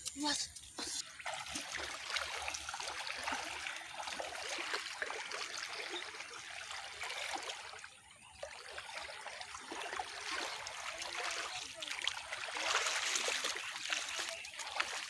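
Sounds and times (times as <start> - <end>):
muddy water sloshing: 0.2 - 15.0
small splashes: 0.6 - 15.0.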